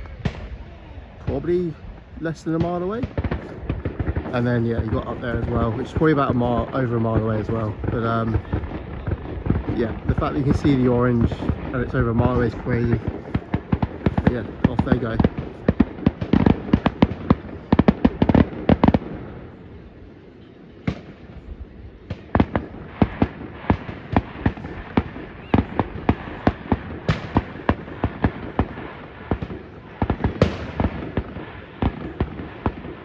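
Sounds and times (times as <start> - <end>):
fireworks banging: 0.0 - 19.9, 20.8 - 33.0.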